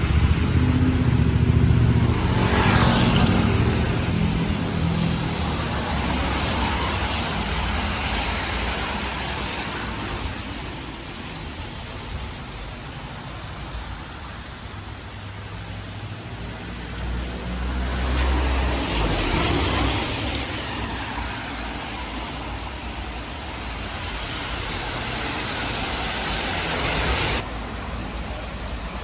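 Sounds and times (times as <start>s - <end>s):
car passing: 0.0s - 29.0s
vehicle approaching: 0.0s - 29.0s.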